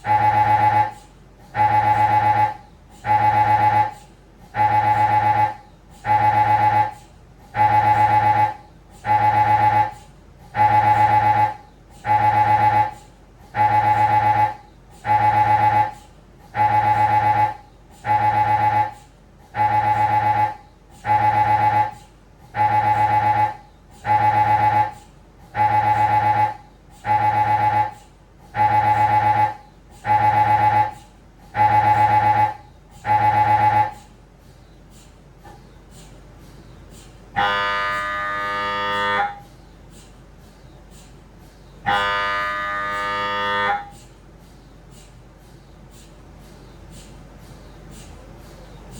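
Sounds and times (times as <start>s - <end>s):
mri scanner buzzing pulses: 0.0s - 48.9s.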